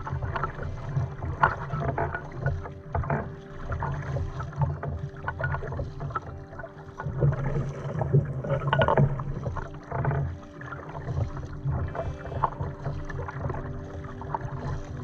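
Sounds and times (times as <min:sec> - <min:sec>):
paddle blades splashing: 0:00.0 - 0:15.0
water sloshing along hull: 0:00.0 - 0:15.0.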